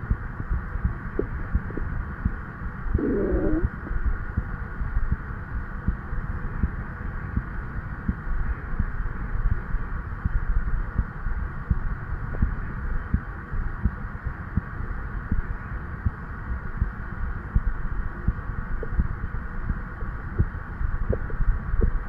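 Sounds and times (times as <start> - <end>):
heartbeat thumps through stethoscope: 0.0 - 7.5, 10.2 - 14.0, 14.6 - 16.2, 16.8 - 22.0.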